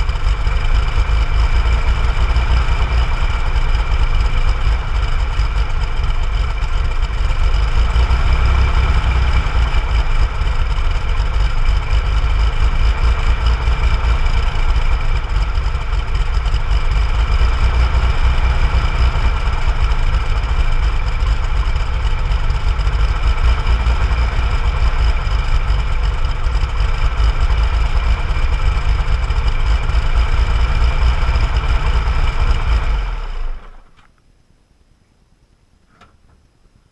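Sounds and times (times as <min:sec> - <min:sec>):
car engine idling: 0:00.0 - 0:34.2.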